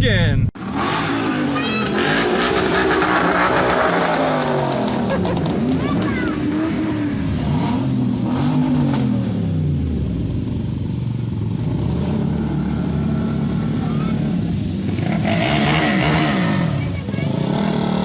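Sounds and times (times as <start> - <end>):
car engines revving by: 0.6 - 18.0.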